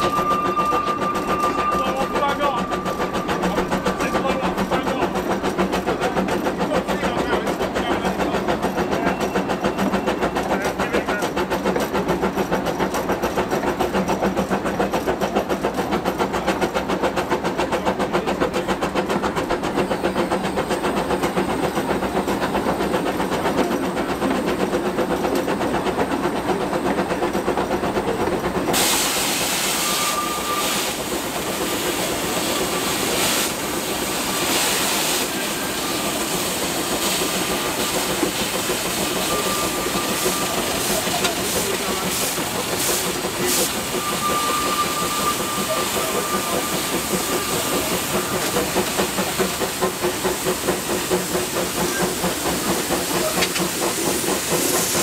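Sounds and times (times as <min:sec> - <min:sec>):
engine clatter: 0:00.0 - 0:55.0
steam hissing: 0:00.0 - 0:55.0
steam locomotive exhaust beat: 0:00.0 - 0:55.0.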